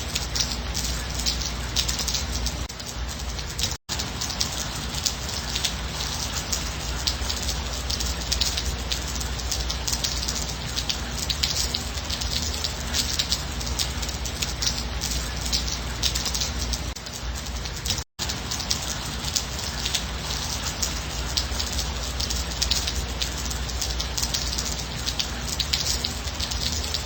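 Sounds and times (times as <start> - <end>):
raindrops ticking on a surface: 0.0 - 27.0
steady rain hiss: 0.0 - 27.0.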